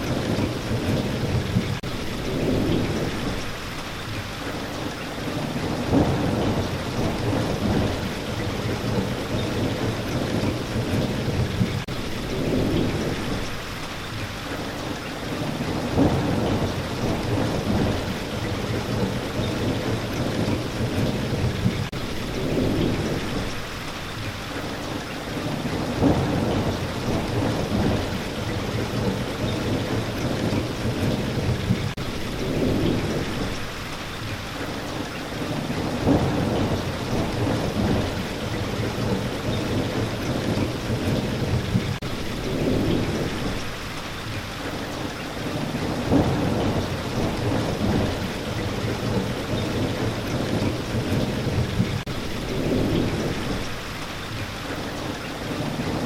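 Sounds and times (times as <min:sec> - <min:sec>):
thunder rumbling: 0:00.0 - 0:13.8, 0:14.5 - 0:56.0
steady rain: 0:00.0 - 0:56.0.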